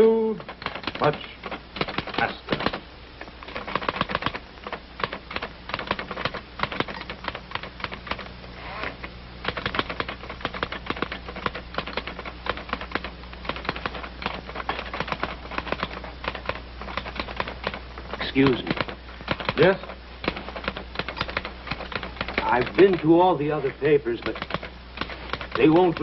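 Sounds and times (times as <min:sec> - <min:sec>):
typewriter typing quickly: 0:00.0 - 0:02.8, 0:03.5 - 0:08.3, 0:09.4 - 0:26.0.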